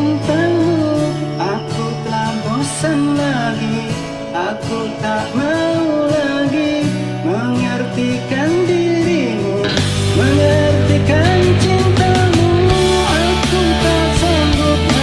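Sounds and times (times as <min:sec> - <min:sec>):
slow pop ballad with guitar: 0:00.0 - 0:15.0.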